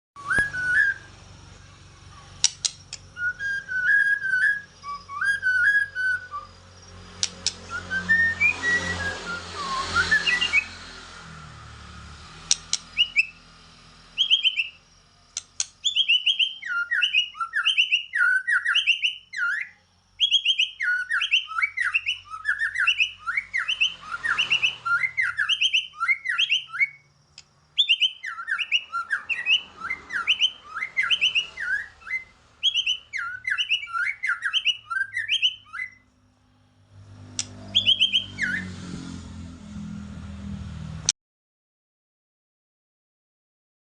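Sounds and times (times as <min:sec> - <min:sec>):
bird song of rapid sweeping notes: 0:00.2 - 0:36.1, 0:36.9 - 0:41.0.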